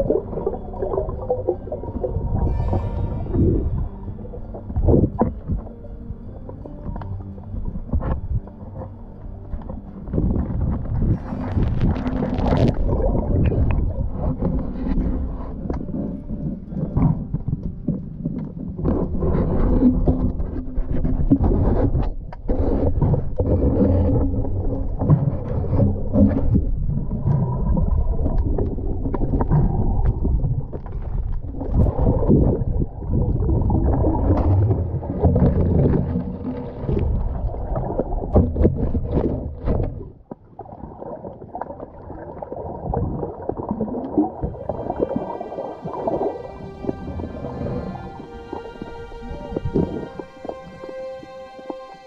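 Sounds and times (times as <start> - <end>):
muffled underwater splashing and bubbling: 0.0 - 52.0.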